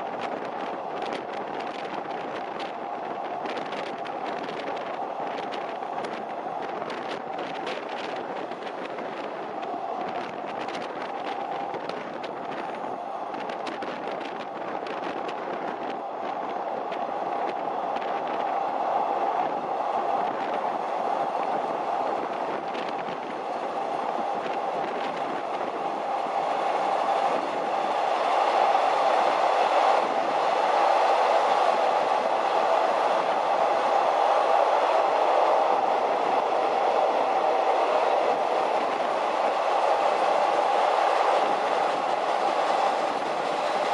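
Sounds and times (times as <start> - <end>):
train rumbling on rails: 0.0 - 43.9
train wheels clicking over rails: 0.0 - 43.9.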